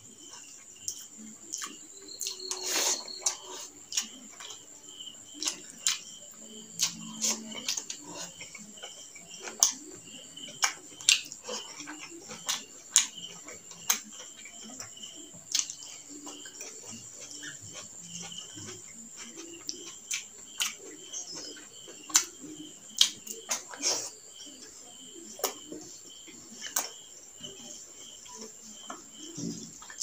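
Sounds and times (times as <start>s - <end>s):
cricket chirping: 0.0s - 30.0s
chewing: 0.1s - 30.0s.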